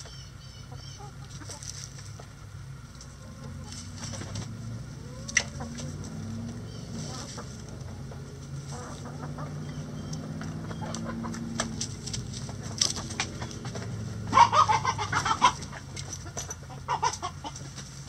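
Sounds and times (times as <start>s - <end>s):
chickens clucking softly: 0.0s - 18.0s
pecking and scratching on dirt: 0.0s - 18.0s.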